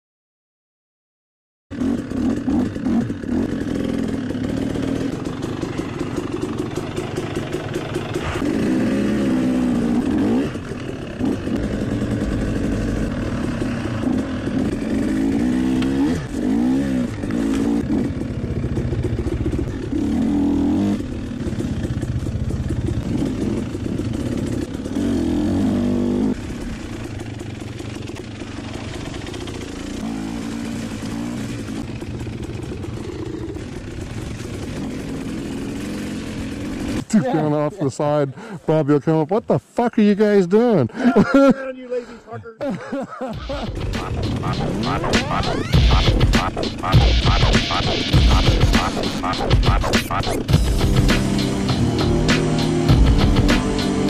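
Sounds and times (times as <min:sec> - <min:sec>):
dirt bike engine revving: 0:01.7 - 0:38.5, 0:43.3 - 0:54.0.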